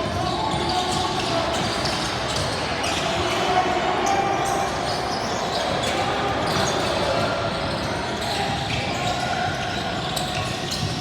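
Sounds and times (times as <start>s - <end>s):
murmur in echoing hall: 0.0s - 11.0s
shoe squeaks on court: 0.1s - 11.0s.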